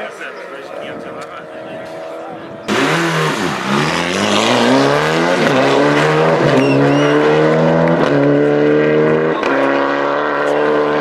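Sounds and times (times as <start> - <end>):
rally car engine accelerating: 1.2 - 11.0.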